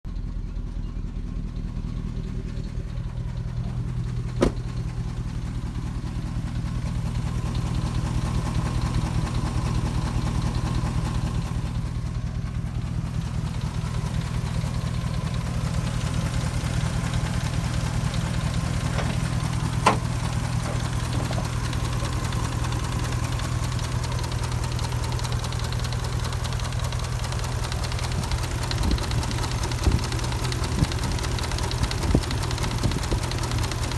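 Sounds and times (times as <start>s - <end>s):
engine idling with fast ticking: 0.1s - 33.9s.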